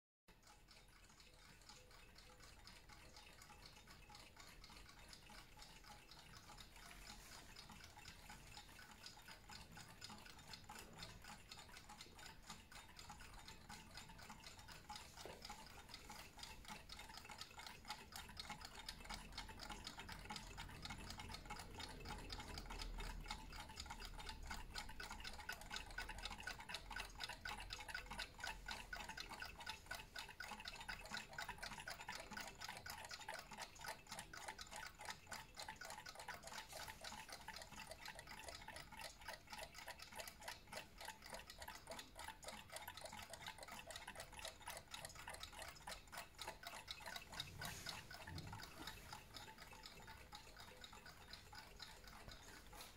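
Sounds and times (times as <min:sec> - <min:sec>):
wind-up alarm clock ticking: 0:00.3 - 0:52.9.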